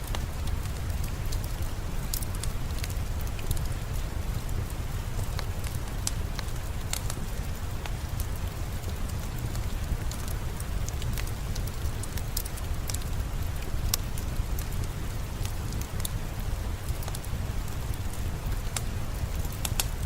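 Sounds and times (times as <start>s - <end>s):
steady rainfall: 0.0s - 20.0s
wood fire crackling: 0.0s - 20.0s.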